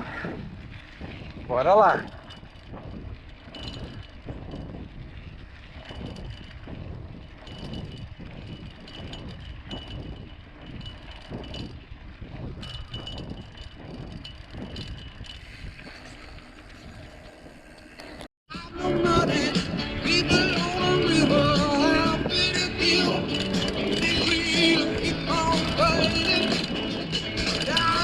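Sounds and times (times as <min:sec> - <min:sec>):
wind on microphone: 0:00.0 - 0:17.7, 0:18.9 - 0:28.0
bike tyres rumbling on dirt: 0:00.0 - 0:28.0.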